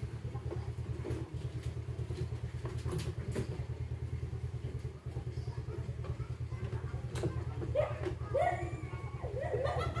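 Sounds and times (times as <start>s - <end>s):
low mechanical drone with flutter: 0.0s - 10.0s.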